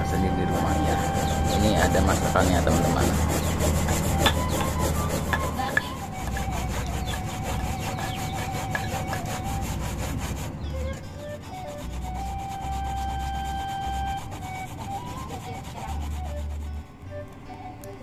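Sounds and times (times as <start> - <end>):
stone pestle grinding in mortar: 0.0 - 16.9.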